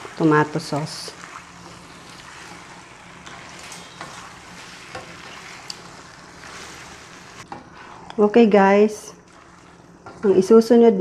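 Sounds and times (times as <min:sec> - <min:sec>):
food sizzling in a pan: 0:00.0 - 0:10.5.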